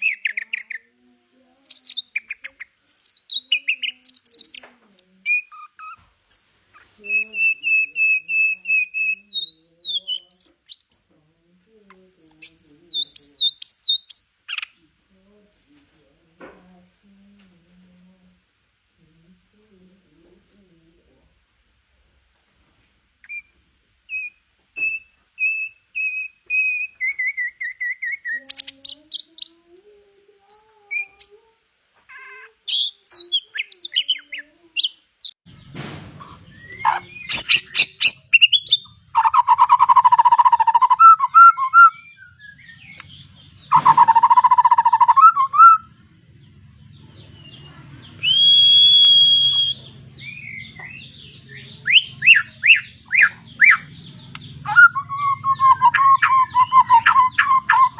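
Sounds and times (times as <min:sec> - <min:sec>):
harsh bird calls: 0:00.0 - 0:11.1, 0:12.2 - 0:14.8, 0:24.1 - 0:57.9
songbirds chirping and singing: 0:00.0 - 0:16.3, 0:23.2 - 0:57.9.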